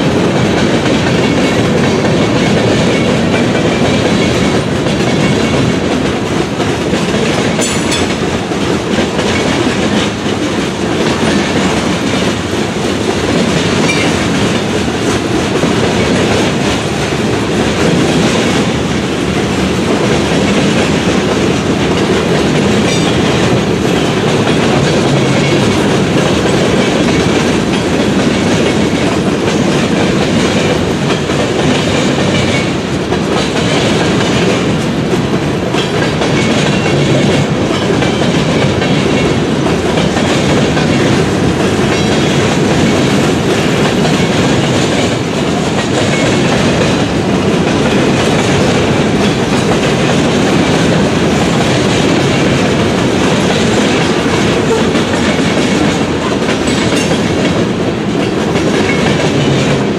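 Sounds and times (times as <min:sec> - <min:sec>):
train wheels clacking over rail joints: 0:00.0 - 0:59.9.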